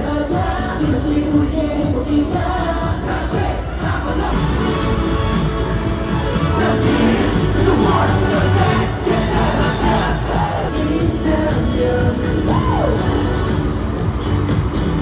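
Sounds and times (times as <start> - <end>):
live pop music with singing: 0.0 - 15.0.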